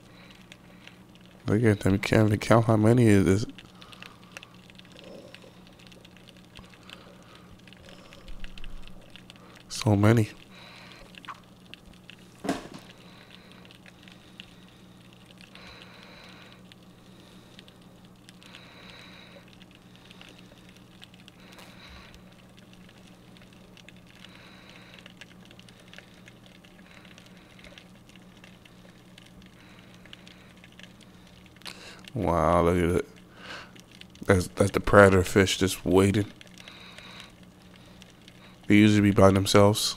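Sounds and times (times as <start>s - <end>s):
crackling water patter: 0.0s - 39.9s
low hum: 0.0s - 39.9s.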